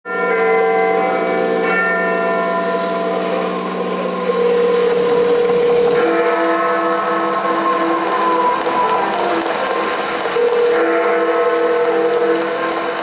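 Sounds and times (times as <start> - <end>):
bell-like keyboard chords: 0.1 - 13.0.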